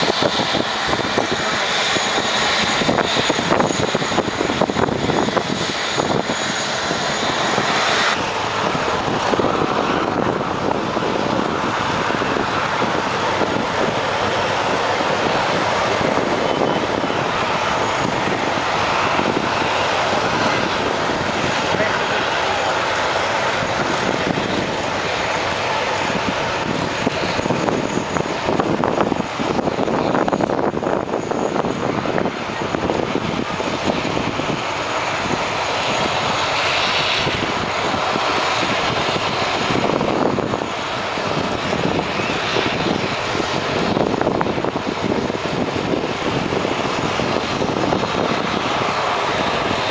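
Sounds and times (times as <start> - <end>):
jet engines rushing: 0.0 - 49.9.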